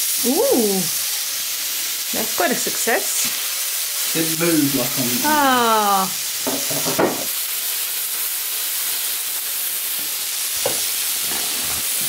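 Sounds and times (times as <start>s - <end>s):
steak sizzling on griddle: 0.0s - 12.0s.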